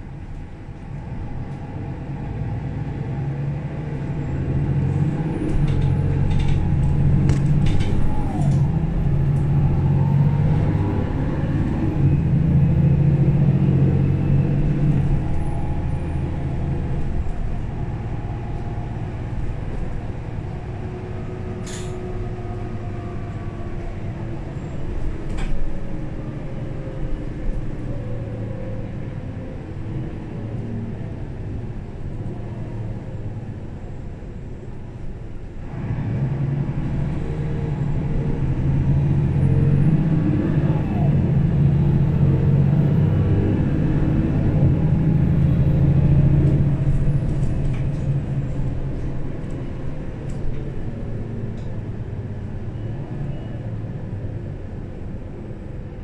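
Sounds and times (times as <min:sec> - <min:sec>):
bus diesel engine rumble: 0:00.0 - 0:56.0.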